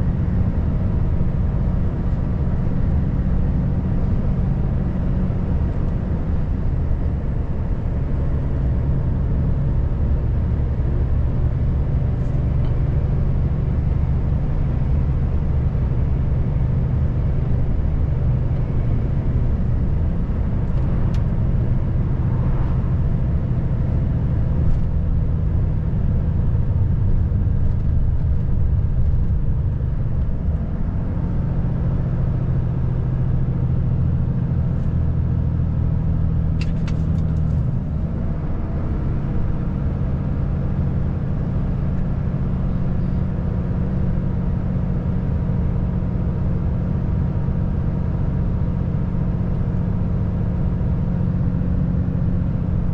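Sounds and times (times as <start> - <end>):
road noise: 0.0 - 52.9
truck diesel engine drone: 0.0 - 52.9.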